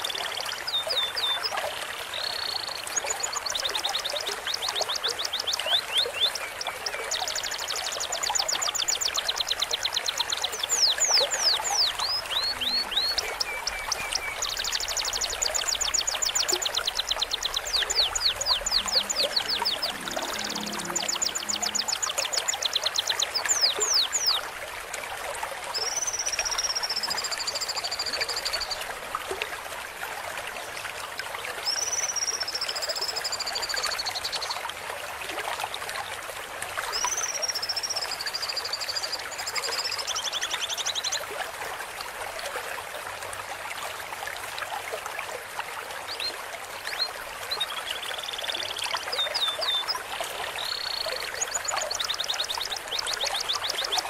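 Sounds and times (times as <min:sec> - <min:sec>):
trickling stream: 0:00.0 - 0:54.0.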